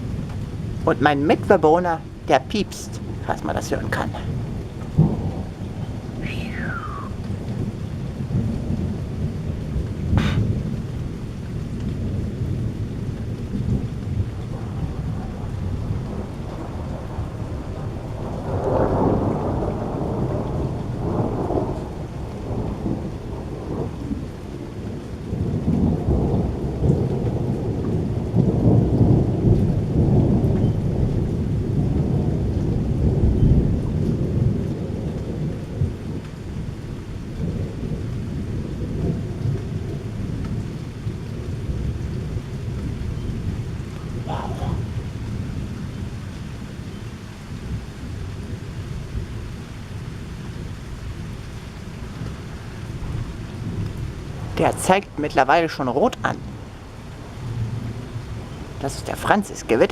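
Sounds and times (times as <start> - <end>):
steady light rain: 0.0 - 59.9
thunder rumbling: 0.0 - 59.9.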